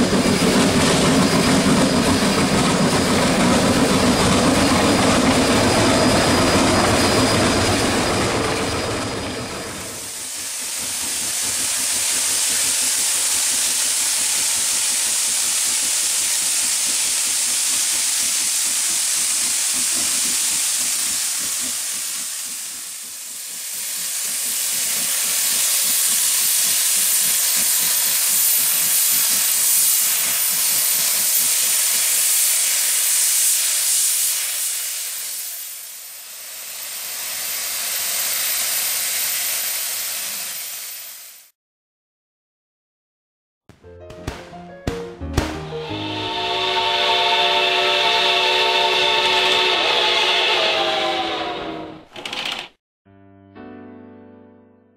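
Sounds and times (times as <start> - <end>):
steam hissing: 0.0 - 41.5, 45.9 - 51.9
steam locomotive rumbling past: 0.0 - 41.5, 45.2 - 52.1.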